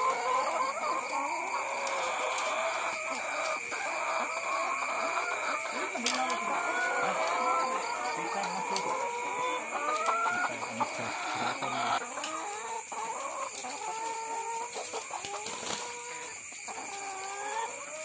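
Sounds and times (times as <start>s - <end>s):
hens clucking and calling: 0.0s - 18.0s.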